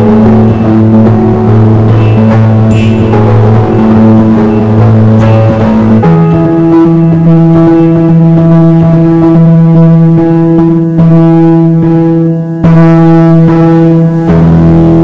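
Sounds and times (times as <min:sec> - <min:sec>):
sustained bass-heavy music notes: 0:00.0 - 0:15.0.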